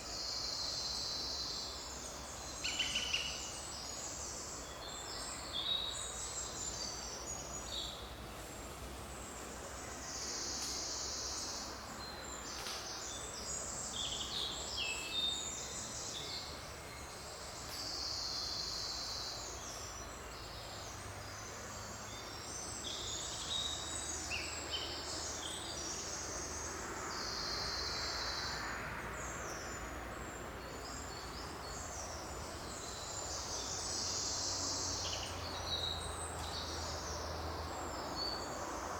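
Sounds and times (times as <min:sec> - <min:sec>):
low background noise: 0:00.0 - 0:38.9.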